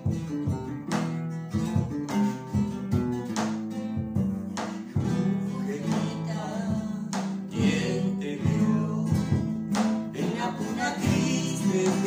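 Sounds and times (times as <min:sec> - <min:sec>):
drum struck with a stick: 0:00.0 - 0:10.2, 0:11.0 - 0:12.0
acoustic guitars strumming: 0:00.0 - 0:12.0.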